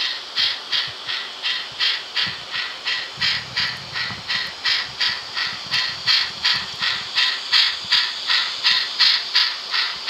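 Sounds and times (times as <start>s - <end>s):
model steam locomotive chuffing: 0.0s - 10.0s.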